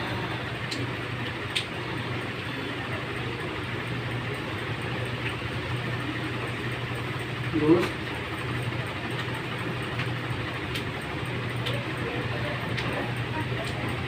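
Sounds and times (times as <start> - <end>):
low motor hum: 0.0 - 14.0
noisy background: 0.0 - 14.0.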